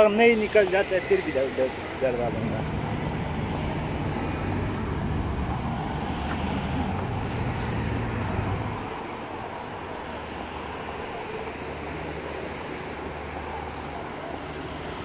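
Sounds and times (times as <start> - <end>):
road traffic wash: 0.0 - 15.0
vehicle engine humming close by: 0.0 - 15.0.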